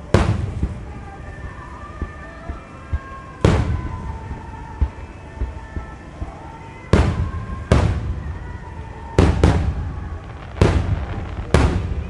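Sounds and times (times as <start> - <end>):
firework booms with echo: 0.0 - 12.0.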